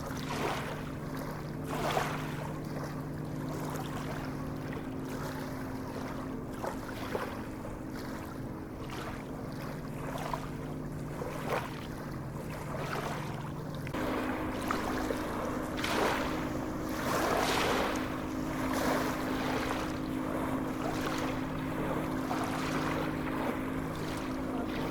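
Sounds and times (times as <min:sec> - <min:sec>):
sea waves breaking: 0:00.0 - 0:24.9
steady low hum: 0:00.0 - 0:24.9.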